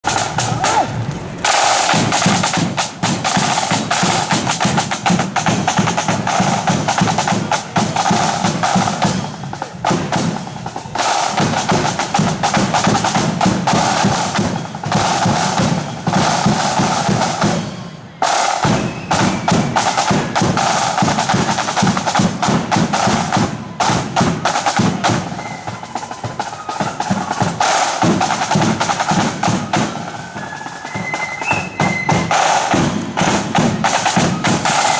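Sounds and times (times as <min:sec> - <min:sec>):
snare and bass drums marching beat: 0:00.0 - 0:34.9.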